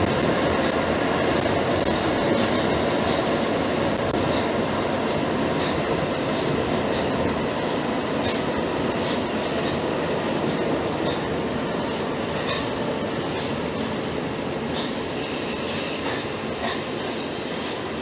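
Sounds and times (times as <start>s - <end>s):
metro train rolling rumble: 0.0s - 18.0s.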